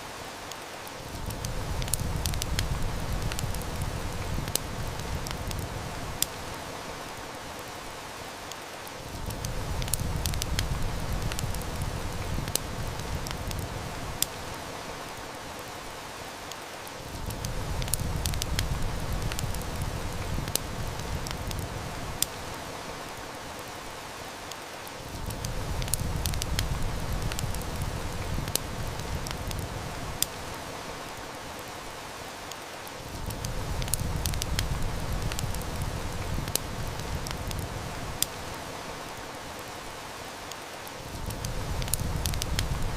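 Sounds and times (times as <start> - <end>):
heavy rain hiss: 0.0 - 42.9
wood fire crackling: 0.0 - 42.9.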